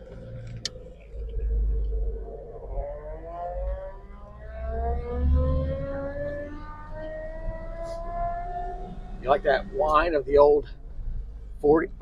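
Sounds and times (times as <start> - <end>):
rising whine: 0.0 - 10.4
car engine rumbling: 0.0 - 12.0.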